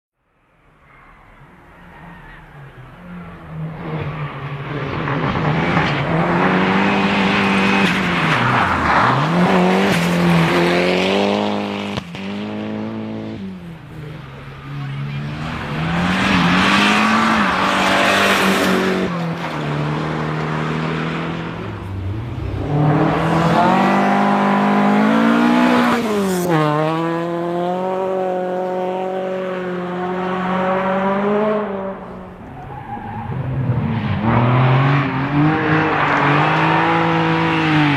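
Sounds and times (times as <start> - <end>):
rally cars passing at speed: 0.4 - 37.9.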